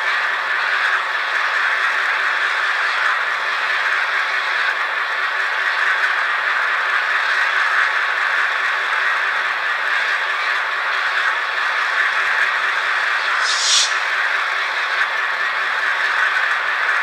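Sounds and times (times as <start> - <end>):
model diesel locomotive idling: 0.0 - 17.0.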